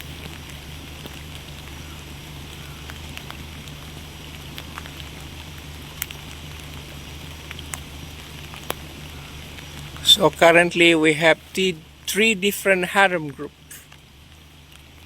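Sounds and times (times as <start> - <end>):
light rain pattering: 0.0 - 15.0
steady low hum: 0.0 - 15.0
water dripping: 0.0 - 15.0.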